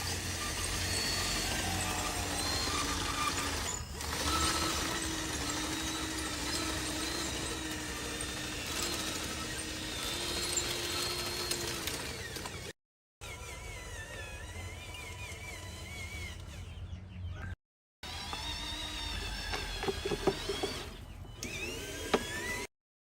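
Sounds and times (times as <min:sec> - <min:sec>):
electric motors whining and grinding: 0:00.0 - 0:22.7.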